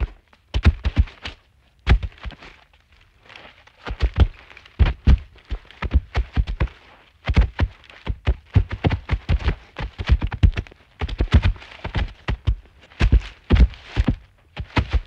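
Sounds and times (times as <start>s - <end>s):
sharp knocks and thuds: 0.0s - 2.6s, 3.8s - 15.0s.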